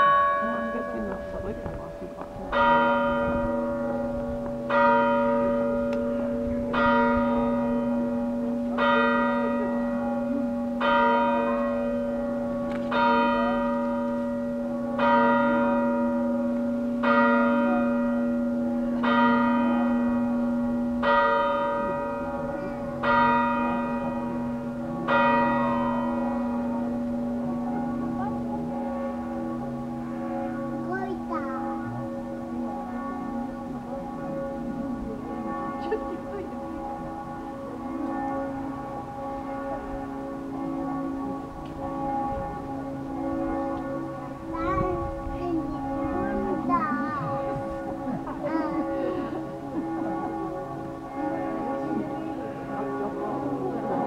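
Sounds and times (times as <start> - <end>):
clock bell striking: 0.0 - 54.0.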